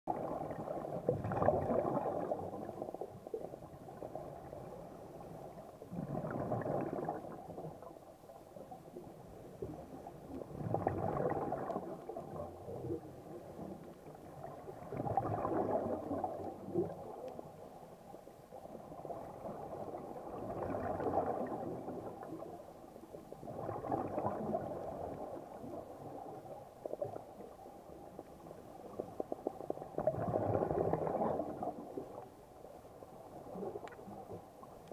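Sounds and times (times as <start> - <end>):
exhaled bubbles underwater: 0.1 - 34.9.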